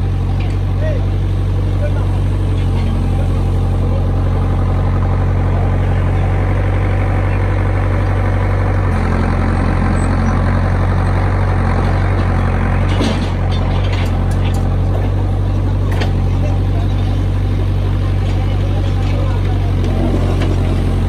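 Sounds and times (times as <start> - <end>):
large engine idling: 0.0 - 21.0.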